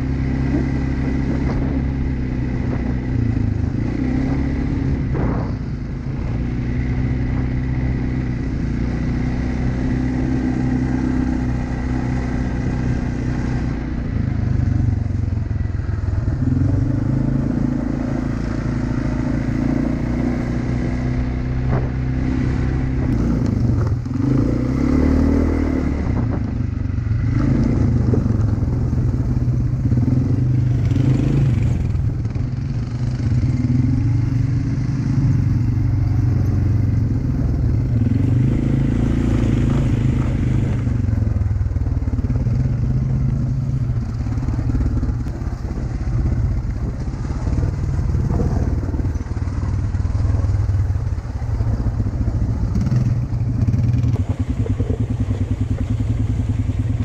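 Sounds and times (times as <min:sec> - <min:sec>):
motorbike engine running: 0:00.0 - 0:57.0.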